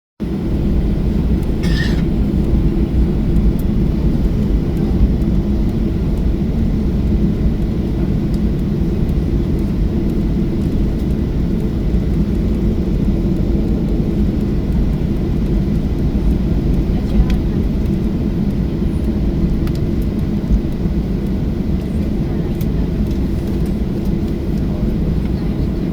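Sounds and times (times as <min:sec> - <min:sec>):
jet engines rumbling: 0:00.2 - 0:25.9.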